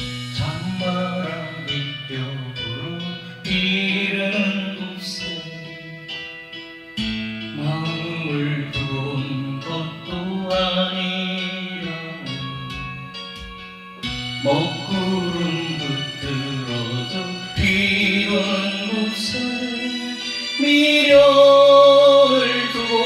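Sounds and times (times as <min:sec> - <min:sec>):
electronic keyboard chords: 0:00.0 - 0:23.0.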